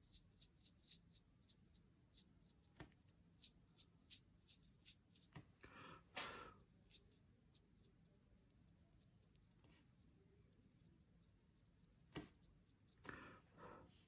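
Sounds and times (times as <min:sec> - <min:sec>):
pen nib scratching paper: 0:00.0 - 0:05.6, 0:06.6 - 0:13.4.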